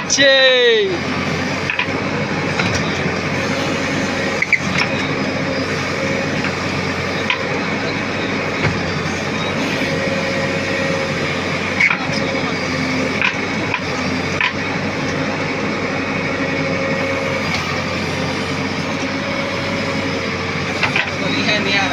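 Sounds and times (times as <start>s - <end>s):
diesel engine running: 0.0s - 21.9s.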